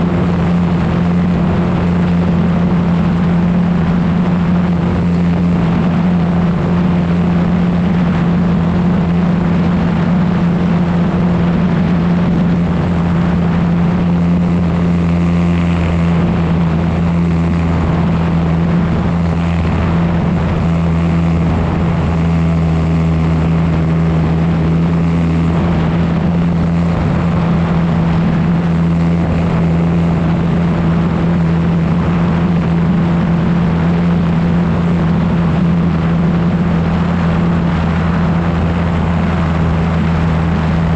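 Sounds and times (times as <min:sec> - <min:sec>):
aircraft engine and propeller: 0:00.0 - 0:40.9
rushing air: 0:00.0 - 0:40.9.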